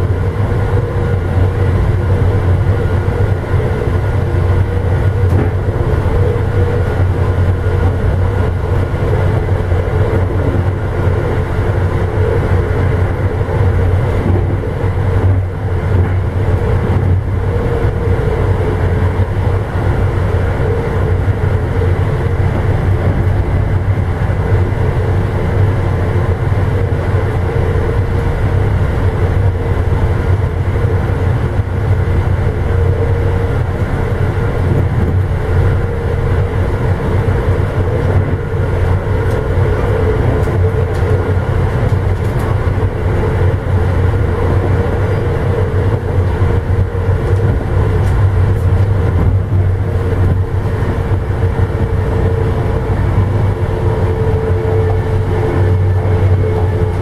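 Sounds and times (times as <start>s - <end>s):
train car rumbling on track: 0.0s - 57.0s.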